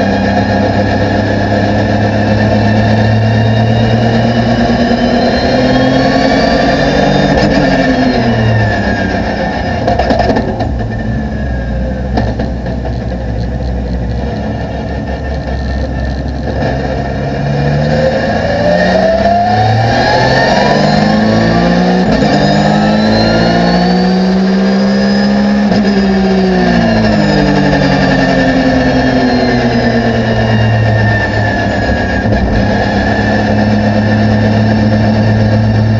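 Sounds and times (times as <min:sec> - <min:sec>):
racing car engine revving: 0:00.0 - 0:35.9.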